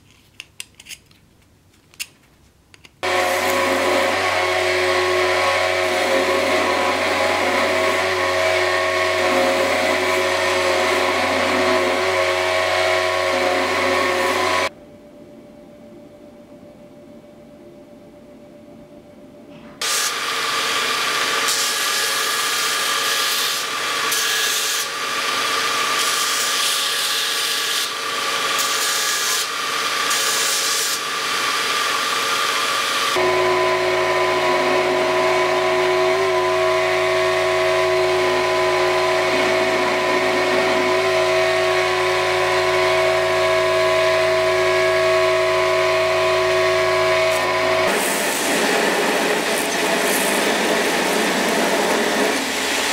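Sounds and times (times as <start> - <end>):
belt grinder grinding: 3.0 - 14.7, 19.8 - 52.9.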